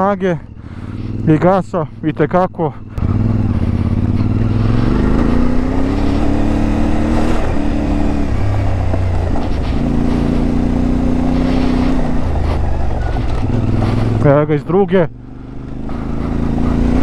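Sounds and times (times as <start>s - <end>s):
motorcycle engine under throttle: 0.0s - 17.0s.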